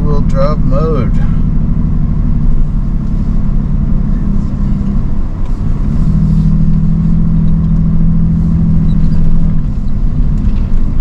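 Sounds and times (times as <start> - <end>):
engine running hard: 0.0 - 11.0
low rumble: 0.0 - 11.0.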